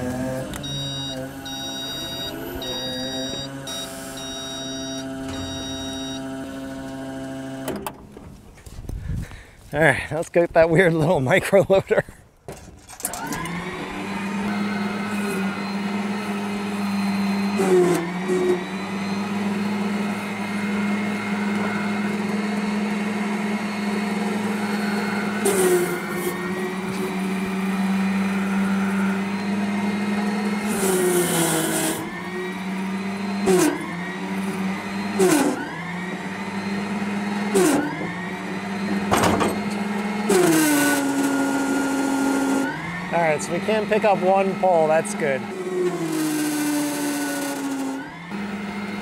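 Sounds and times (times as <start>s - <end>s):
electric motor whining: 0.0s - 8.0s, 13.0s - 49.0s.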